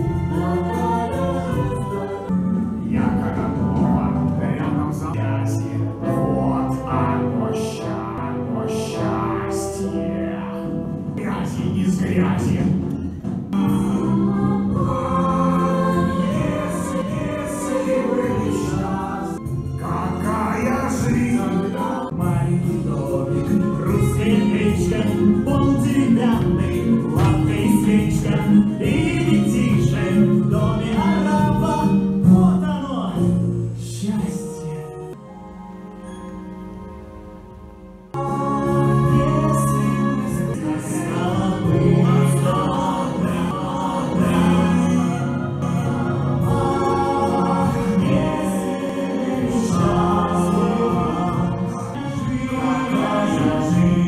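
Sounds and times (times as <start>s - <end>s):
choir singing held notes: 0.0s - 12.7s, 13.5s - 32.4s, 38.1s - 54.0s
musical accompaniment: 0.0s - 54.0s.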